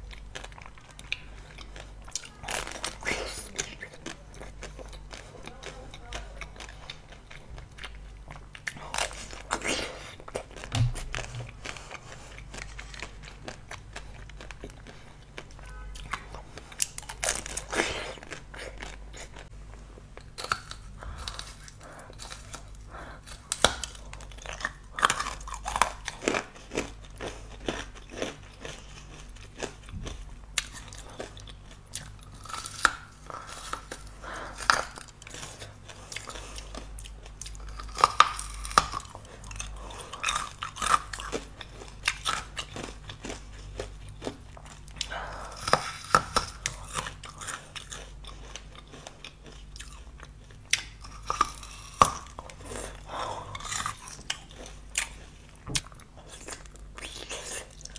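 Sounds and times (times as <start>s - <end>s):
wet chewing clicks: 0.0s - 57.9s
crunchy food bites: 0.1s - 19.5s, 20.2s - 57.9s.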